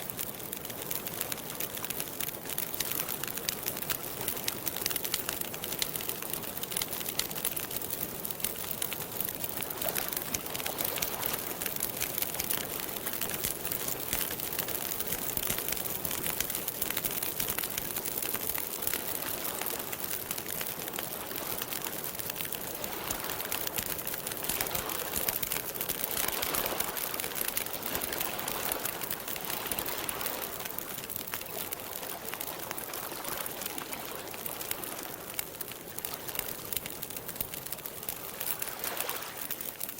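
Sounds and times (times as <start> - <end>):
wood campfire crackling: 0.0 - 39.9.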